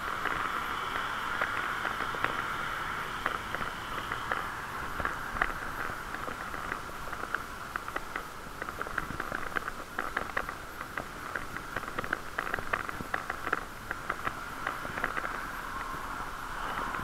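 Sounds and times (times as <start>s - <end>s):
bicycle riding noise: 0.0s - 17.0s.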